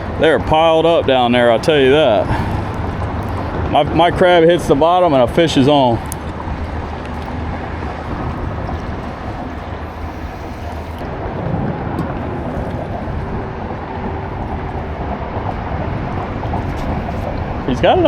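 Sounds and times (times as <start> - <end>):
low rumble: 0.0 - 18.0
wind and water hiss around boat: 0.0 - 18.0.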